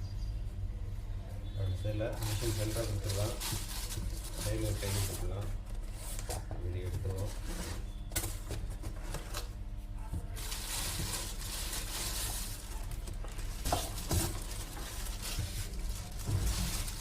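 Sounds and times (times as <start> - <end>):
cardboard rustling and scraping: 2.2 - 17.0.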